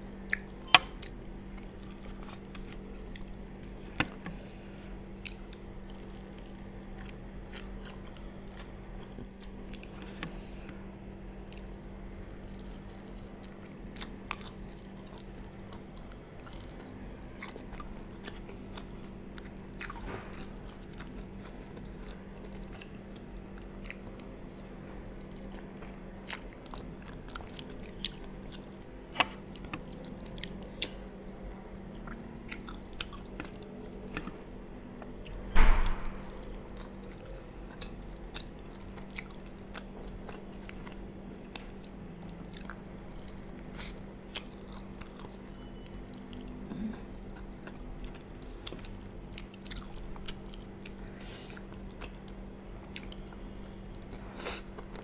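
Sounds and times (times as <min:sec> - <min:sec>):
biting and chewing mouth sounds: 0:00.0 - 0:55.0
steady low hum: 0:00.0 - 0:55.0.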